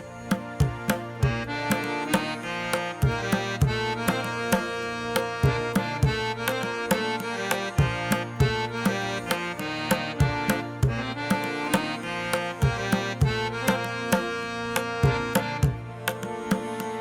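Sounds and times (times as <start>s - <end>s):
regular percussion strikes: 0.0s - 17.0s.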